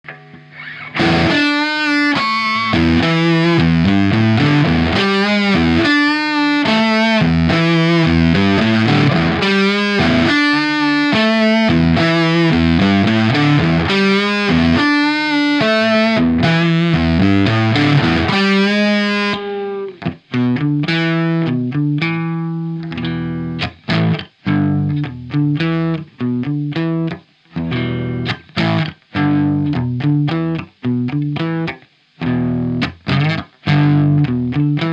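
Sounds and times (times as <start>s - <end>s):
fuzz-distorted electric guitar riffing: 0.1s - 34.9s.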